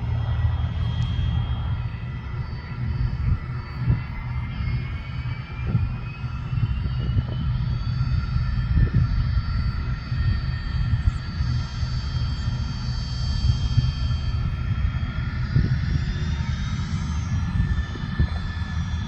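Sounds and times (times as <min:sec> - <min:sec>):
high turbine whines: 0:00.0 - 0:19.0
jet engines low rumble: 0:00.0 - 0:19.0.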